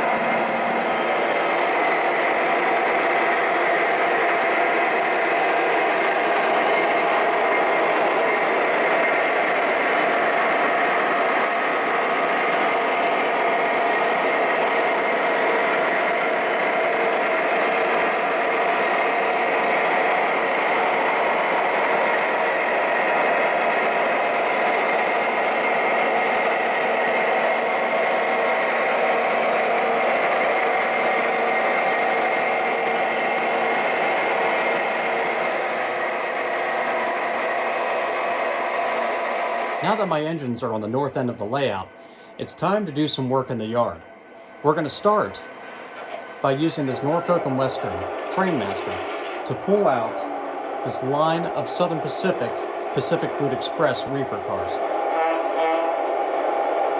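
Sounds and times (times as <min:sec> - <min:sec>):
model train diesel engine drone: 0:00.0 - 0:56.9.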